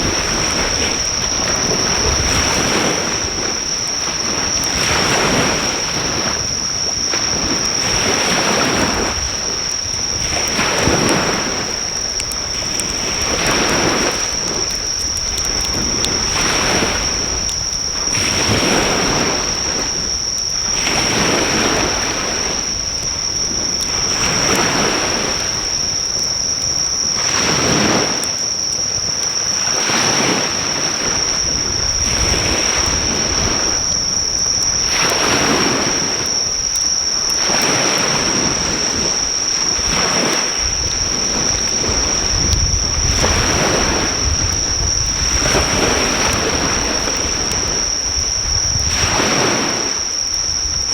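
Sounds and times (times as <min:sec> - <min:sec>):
high-pitched insect trill: 0:00.0 - 0:50.9
sea waves breaking on shore: 0:00.0 - 0:50.9.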